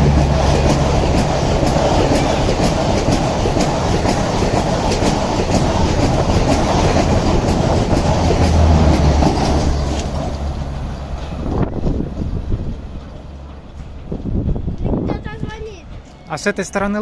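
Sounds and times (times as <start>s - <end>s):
wheels clicking over rails: 0.0s - 16.2s
high-speed train passing: 0.0s - 17.0s.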